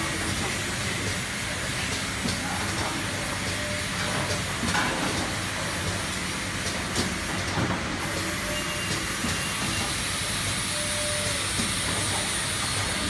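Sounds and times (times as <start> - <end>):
packing machine running: 0.0 - 13.0.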